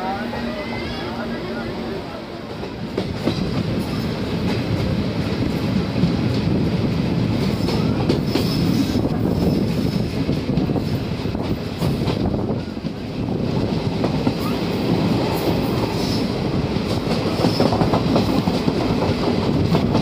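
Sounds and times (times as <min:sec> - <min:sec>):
train coaches rumbling: 0:00.0 - 0:20.0.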